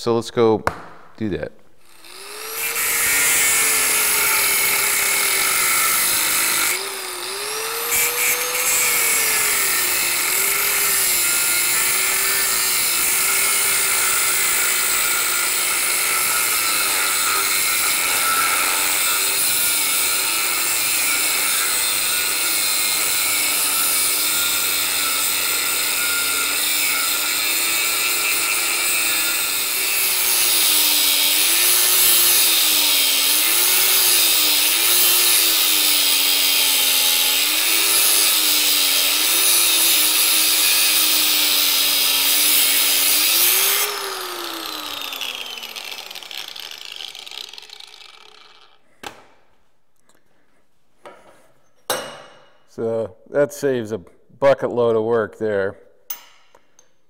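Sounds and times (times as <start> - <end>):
angle grinder cutting steel: 1.8 - 48.9.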